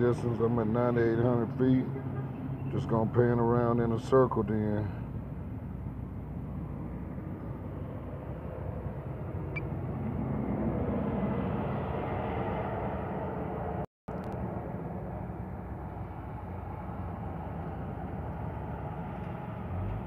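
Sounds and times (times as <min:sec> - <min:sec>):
vehicle-like rumble and hiss: 0:00.0 - 0:20.0.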